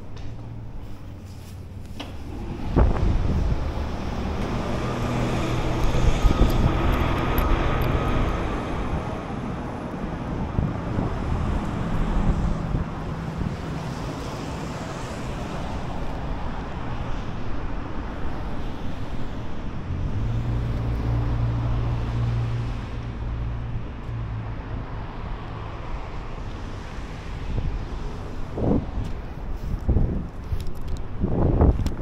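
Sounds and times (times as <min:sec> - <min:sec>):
low engine hum: 0:00.0 - 0:32.0
vehicles passing: 0:00.0 - 0:32.0
wind on microphone: 0:02.3 - 0:23.9, 0:26.1 - 0:32.0.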